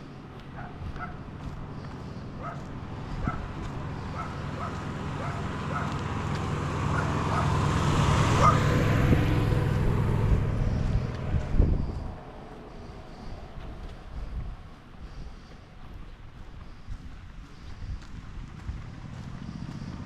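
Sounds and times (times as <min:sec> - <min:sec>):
car passing: 0:00.0 - 0:16.8, 0:17.5 - 0:20.0.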